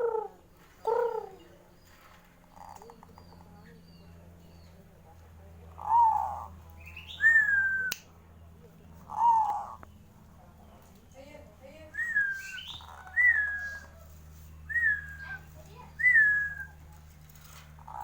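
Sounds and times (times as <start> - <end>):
dove calling: 0.0 - 10.4, 11.8 - 18.0.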